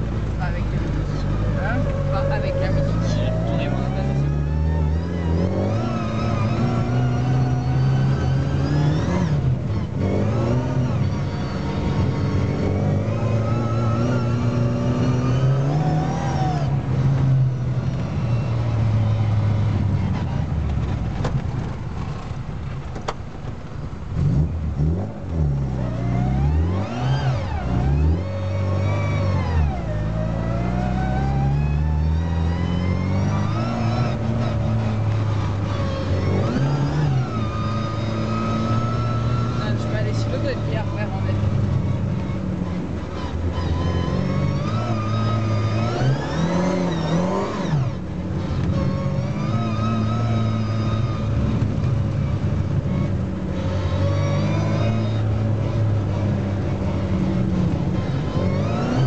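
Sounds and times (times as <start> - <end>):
car engine revving inside cabin: 0.0 - 59.0.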